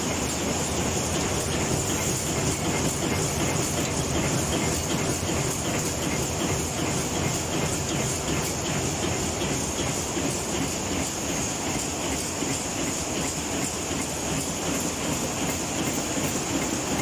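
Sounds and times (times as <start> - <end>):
machine running with rhythmic clatter: 0.0 - 17.0.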